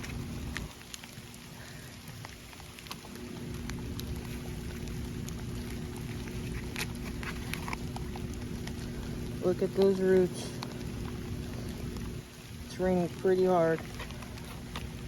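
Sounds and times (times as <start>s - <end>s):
heavy rain: 0.0s - 15.0s
raindrops ticking close by: 0.0s - 15.0s.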